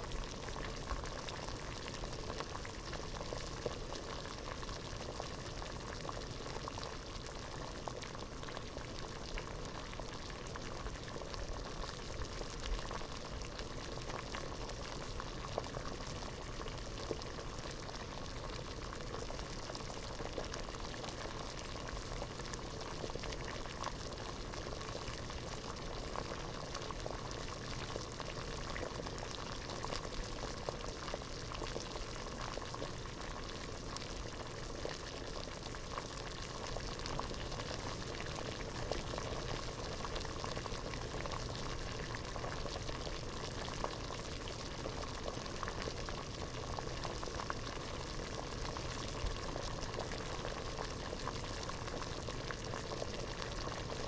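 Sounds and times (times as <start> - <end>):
water boiling in a pot: 0.0 - 54.0.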